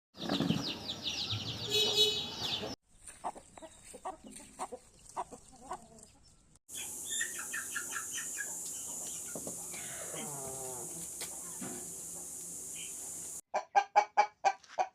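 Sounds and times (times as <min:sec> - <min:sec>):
roosters and chickens clucking: 0:00.2 - 0:14.9.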